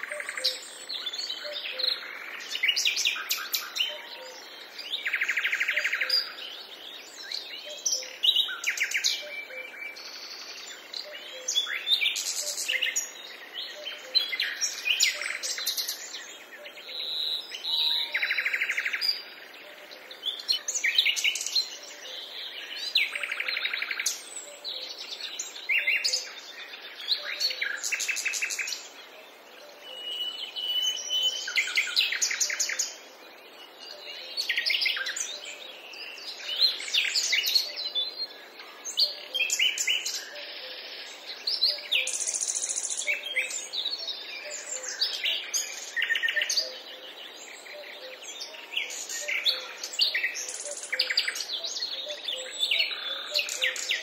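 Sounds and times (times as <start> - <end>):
birds trilling and chirping: 0.0 - 54.0.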